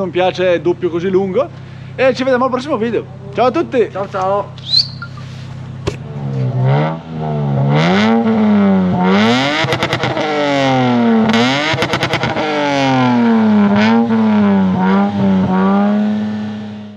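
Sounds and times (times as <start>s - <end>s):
car engine revving open exhaust: 0.0s - 16.9s
engine stuttering: 0.0s - 16.9s.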